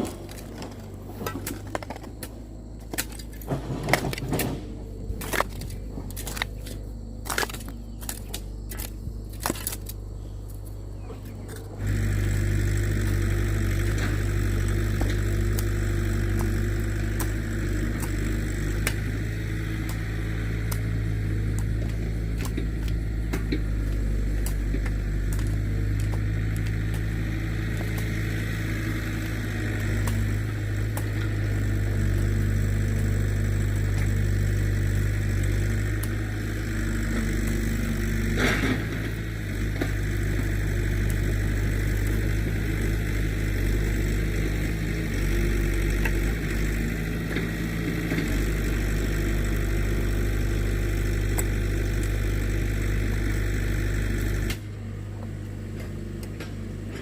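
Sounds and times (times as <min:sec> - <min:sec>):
engine running low: 0:00.0 - 0:57.0.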